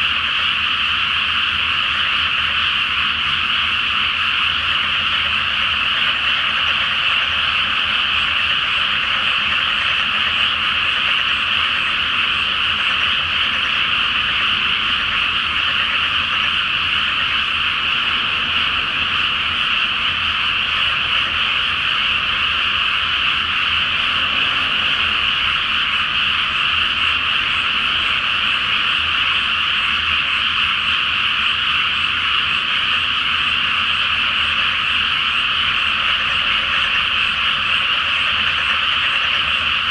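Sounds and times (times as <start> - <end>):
frogs croaking chorus: 0.0 - 39.9.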